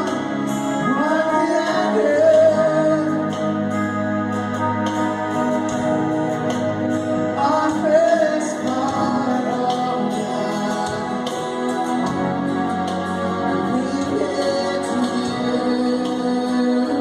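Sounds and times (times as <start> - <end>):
wordless singing: 0.0 - 3.8, 7.2 - 17.0
gospel worship music chords: 0.0 - 17.0.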